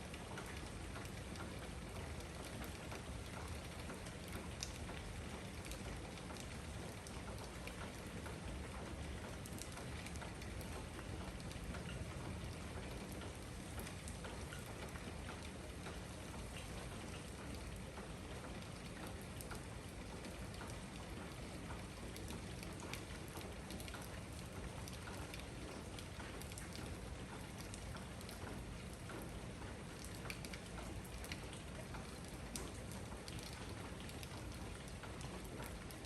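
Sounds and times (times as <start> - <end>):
raindrops ticking on hard surfaces: 0.0 - 36.0
steady rain shower: 0.0 - 36.0.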